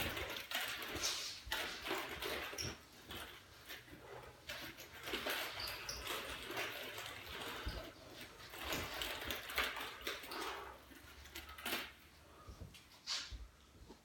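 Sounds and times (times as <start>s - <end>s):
nunchaku swishing: 0.0s - 11.2s.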